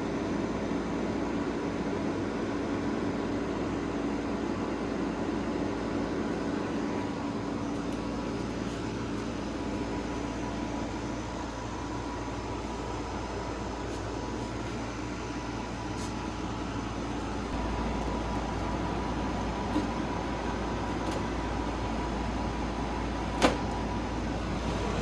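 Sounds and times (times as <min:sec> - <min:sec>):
air conditioner running: 0:00.0 - 0:25.0.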